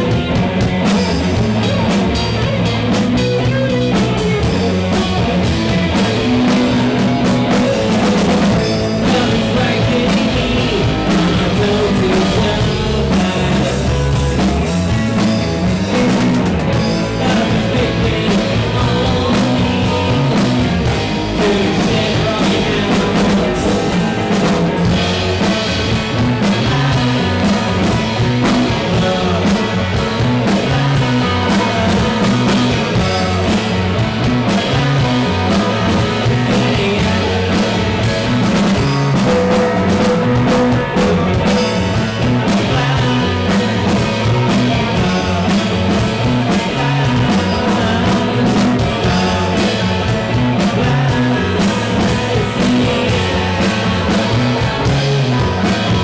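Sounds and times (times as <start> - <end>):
drum kit: 0.0 - 56.0
electric bass: 0.0 - 56.0
electric guitar: 0.0 - 56.0
man singing: 3.1 - 56.0.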